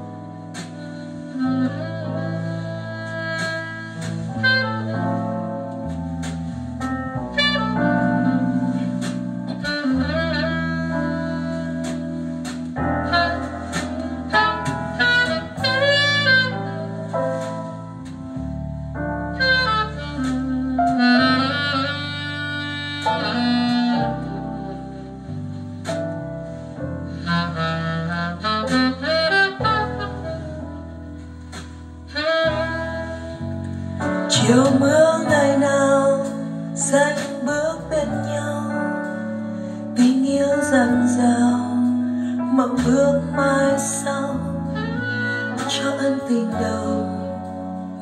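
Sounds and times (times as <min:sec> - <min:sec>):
wavering lead melody: 0:00.0 - 0:42.0
bass notes: 0:00.0 - 0:48.0.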